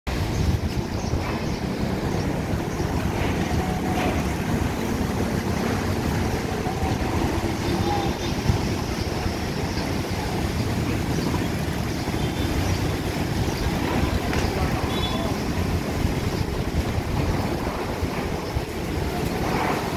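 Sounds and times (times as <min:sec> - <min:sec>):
strong wind blowing: 0:00.1 - 0:19.9
wind buffeting microphone: 0:00.1 - 0:19.9.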